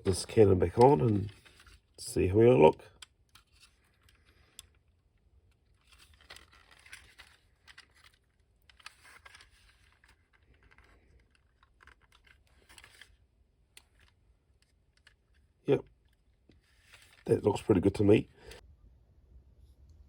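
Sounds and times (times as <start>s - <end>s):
plastic toy parts clicking and scraping: 0.0s - 17.3s.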